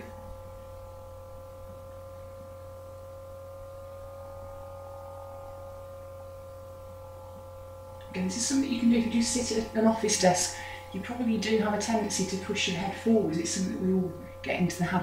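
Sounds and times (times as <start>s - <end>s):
drone of held tones: 0.0s - 15.0s
low hum: 0.0s - 15.0s.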